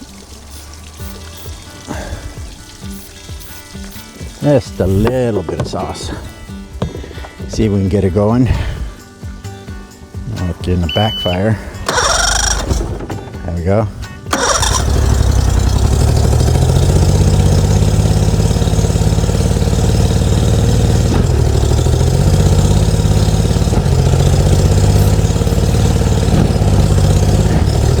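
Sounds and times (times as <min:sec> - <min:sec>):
boat engine idling: 0:00.0 - 0:07.7, 0:10.9 - 0:13.6, 0:14.3 - 0:28.0.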